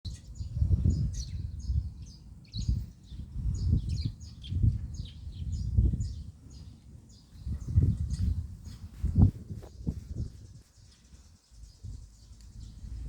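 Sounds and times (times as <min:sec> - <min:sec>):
low rumbling microphone bursts: 0:00.1 - 0:10.6, 0:11.5 - 0:13.0
small birds chirping: 0:00.1 - 0:13.0.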